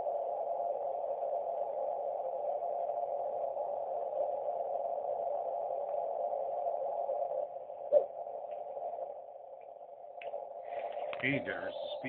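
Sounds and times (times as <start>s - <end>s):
radio receiver hiss: 0.0s - 12.0s.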